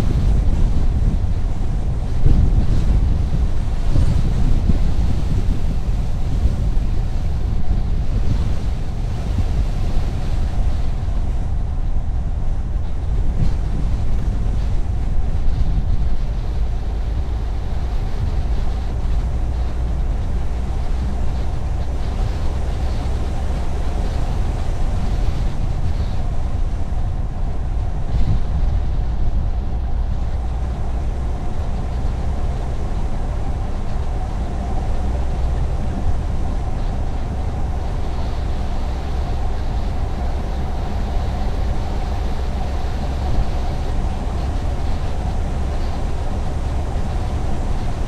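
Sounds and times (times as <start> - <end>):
car engine and tyre rumble: 0.0 - 48.0
faint steady hum: 0.0 - 48.0.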